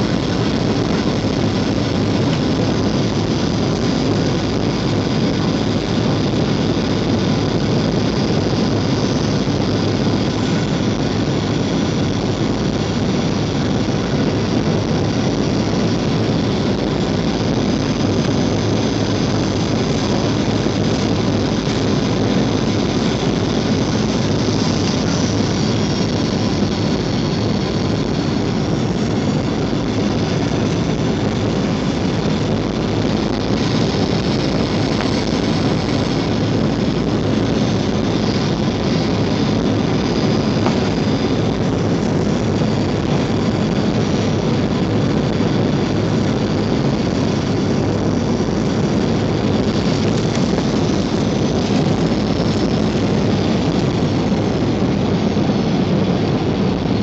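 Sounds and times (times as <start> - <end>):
faint high whine: 0.0 - 57.0
jet engines and rushing airflow: 0.0 - 57.0.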